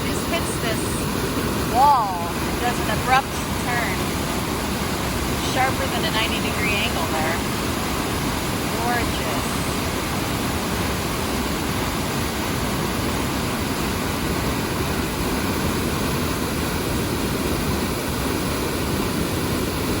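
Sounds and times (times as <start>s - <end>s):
water rushing over waterfall: 0.0s - 20.0s.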